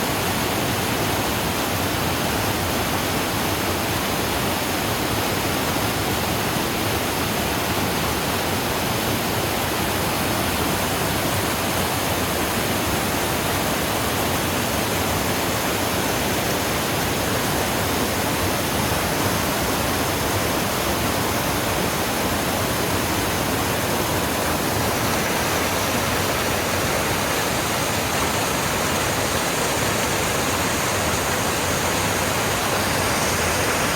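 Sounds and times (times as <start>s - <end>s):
small waterfall splashing: 0.0s - 33.9s.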